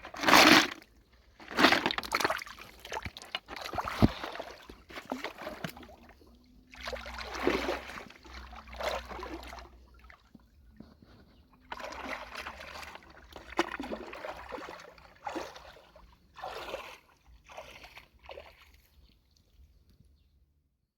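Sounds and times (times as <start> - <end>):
water sloshing and splashing: 0.0 - 19.6.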